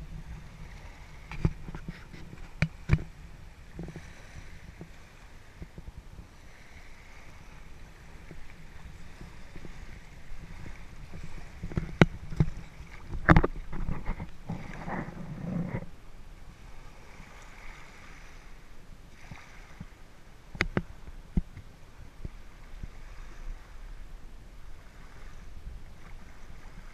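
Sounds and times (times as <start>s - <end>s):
water splashes: 0.0s - 15.9s, 16.5s - 24.0s, 24.6s - 26.9s
water lapping and sloshing: 0.0s - 26.9s
wind on microphone: 0.0s - 26.9s.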